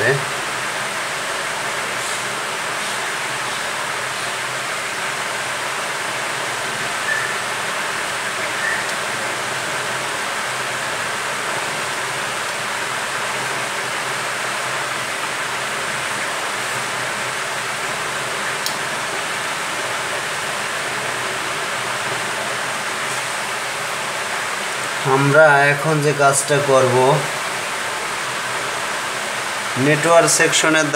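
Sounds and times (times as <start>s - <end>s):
rushing air hiss: 0.0s - 30.9s.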